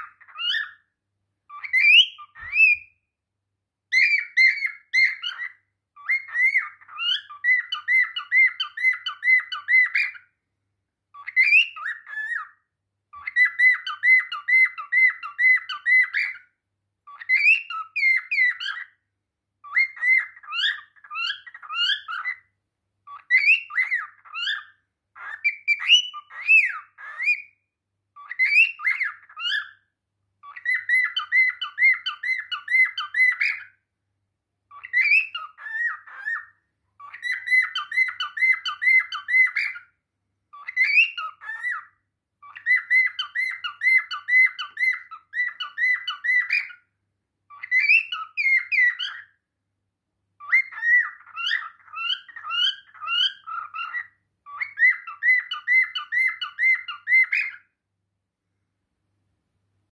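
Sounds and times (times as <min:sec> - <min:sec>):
cockatiel whistling and chirping: 0:00.0 - 0:00.9, 0:01.5 - 0:03.1, 0:03.9 - 0:10.4, 0:11.1 - 0:19.0, 0:19.6 - 0:33.8, 0:34.7 - 0:46.9, 0:47.5 - 0:49.4, 0:50.4 - 0:57.8.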